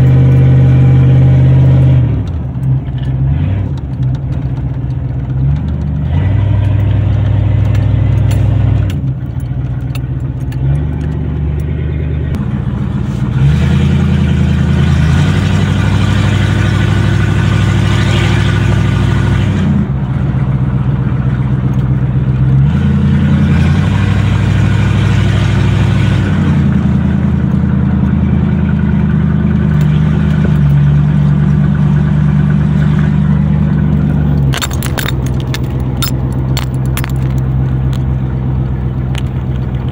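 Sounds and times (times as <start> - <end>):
loud engine through open exhaust: 0.0 - 39.9.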